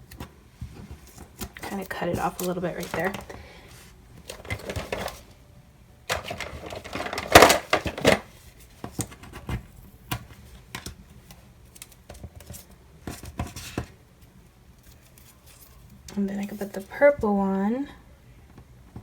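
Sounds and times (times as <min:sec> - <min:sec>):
tape rustling and crinkling: 0:00.0 - 0:05.4, 0:06.1 - 0:17.0.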